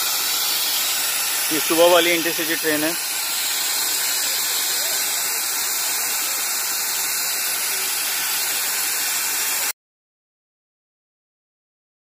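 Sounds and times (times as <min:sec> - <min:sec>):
steady loud hiss: 0:00.0 - 0:09.7.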